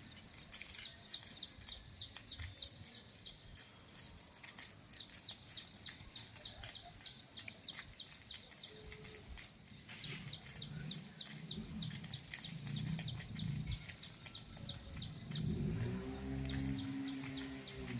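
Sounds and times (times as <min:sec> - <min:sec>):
birds chirping: 0:00.0 - 0:17.9
lower-pitched bird calls: 0:00.1 - 0:17.9.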